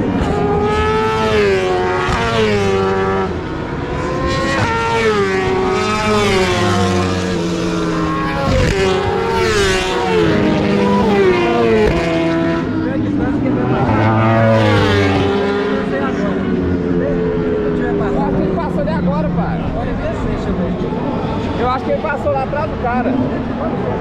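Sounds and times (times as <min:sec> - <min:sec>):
racing motorcycles passing: 0:00.0 - 0:24.0.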